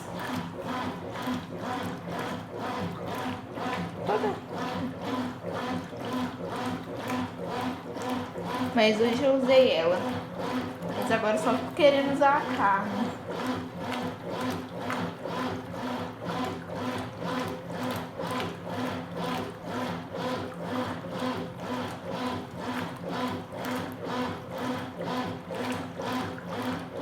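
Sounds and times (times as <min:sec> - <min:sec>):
washing machine agitating: 0:00.0 - 0:27.0.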